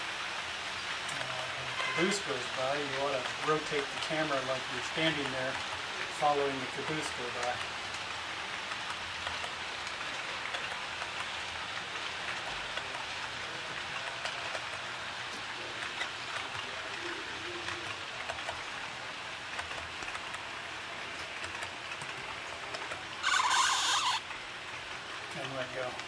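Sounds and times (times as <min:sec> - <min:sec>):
model train rolling on track: 0:00.0 - 0:26.0.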